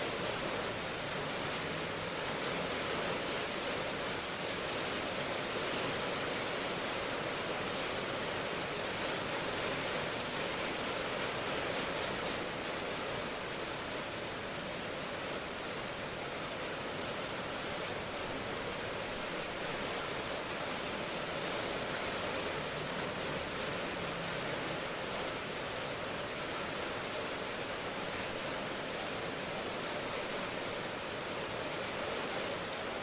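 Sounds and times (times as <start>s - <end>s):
hiss of falling rain: 0.0s - 33.0s.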